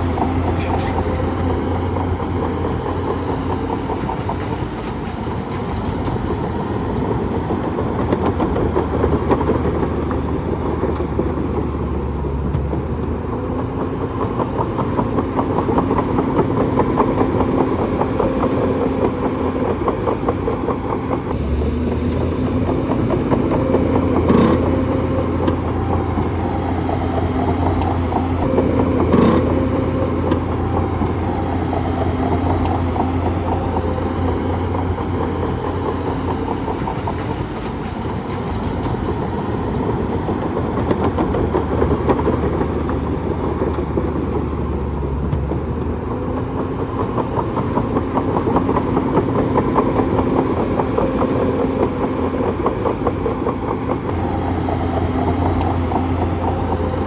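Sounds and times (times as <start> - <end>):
bulldozer diesel engine: 0.0 - 57.0
steel tracks clattering: 0.0 - 57.0.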